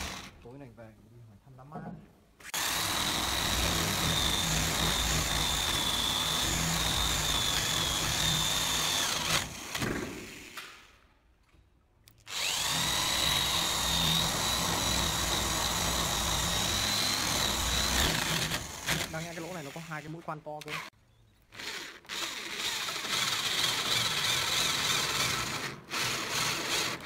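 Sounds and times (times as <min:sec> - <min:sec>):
electric drill boring into wood: 0:00.0 - 0:00.4, 0:02.5 - 0:10.6, 0:12.3 - 0:20.2, 0:21.5 - 0:27.0.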